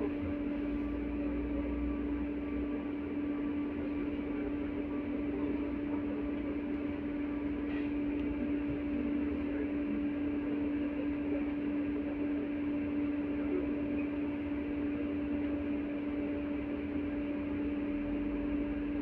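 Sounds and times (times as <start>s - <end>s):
low rumble of tram: 0.0s - 19.0s
steady electrical hum: 0.0s - 19.0s.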